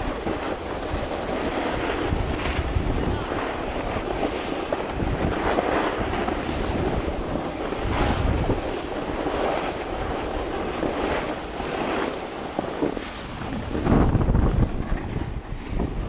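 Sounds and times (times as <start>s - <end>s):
snowboard scraping on snow: 0.0s - 16.0s
wind over a camera microphone: 0.0s - 16.0s.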